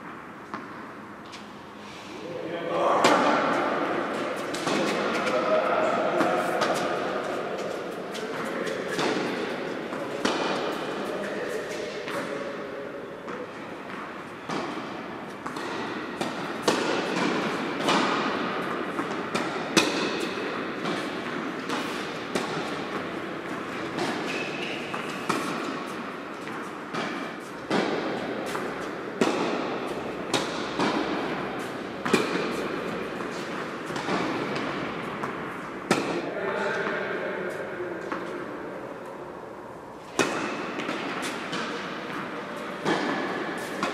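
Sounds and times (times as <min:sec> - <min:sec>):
tennis balls bouncing on hard court: 0:00.0 - 0:01.5, 0:03.0 - 0:37.2, 0:40.0 - 0:43.9
tennis balls struck by rackets: 0:00.0 - 0:01.5, 0:03.0 - 0:39.4, 0:40.0 - 0:43.9.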